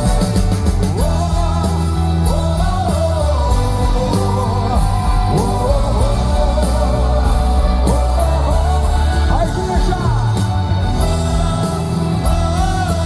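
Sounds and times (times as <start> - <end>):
rock-style worship band playing: 0.0 - 13.0
steady bass: 0.0 - 13.0
person singing long sliding notes: 1.0 - 13.0.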